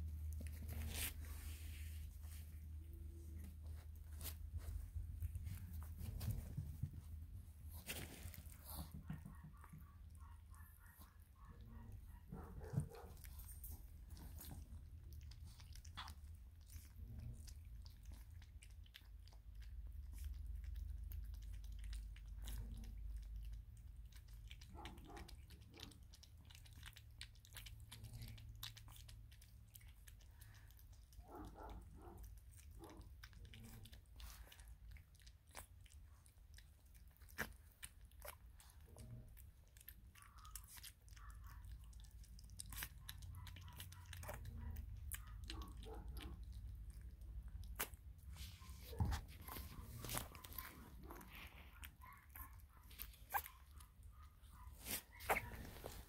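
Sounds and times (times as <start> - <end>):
puppies lapping wet food: 0.0 - 56.0.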